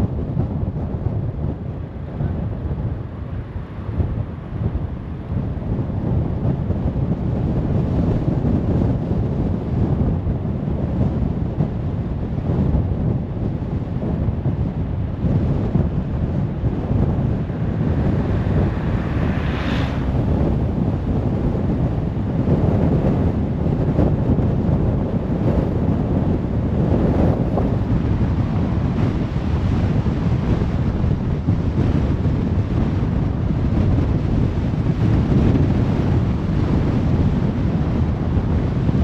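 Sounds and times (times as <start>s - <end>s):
car road and tyre noise: 0.0s - 39.0s.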